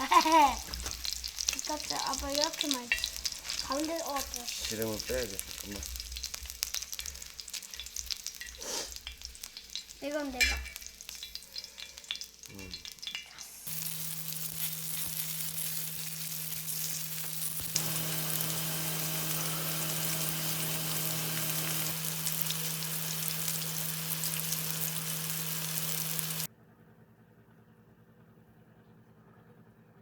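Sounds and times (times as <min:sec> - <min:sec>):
food frying in oil: 0:00.0 - 0:26.5.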